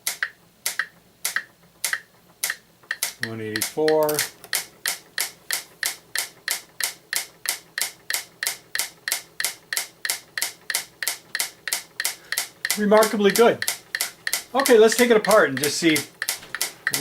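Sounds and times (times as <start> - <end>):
metronome clicking: 0.0 - 17.0.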